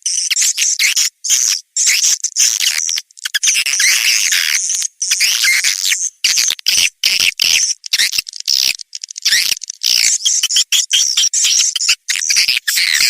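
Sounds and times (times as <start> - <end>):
swiftlets chirping and twittering: 0.1 - 13.0.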